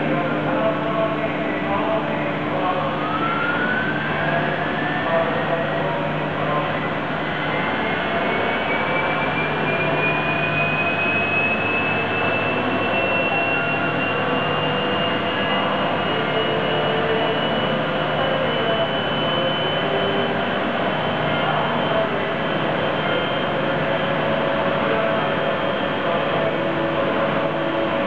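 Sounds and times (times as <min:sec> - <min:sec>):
thin rising whine: 0:00.0 - 0:28.0.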